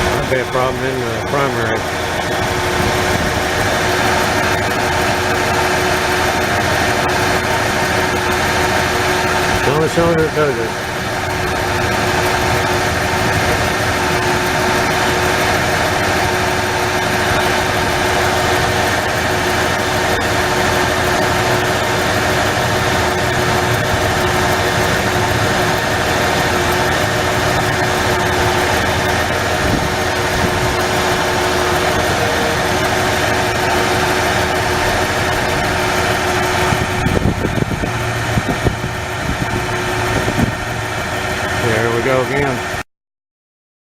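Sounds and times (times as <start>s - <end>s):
engine idling with misfire: 0.0s - 42.8s.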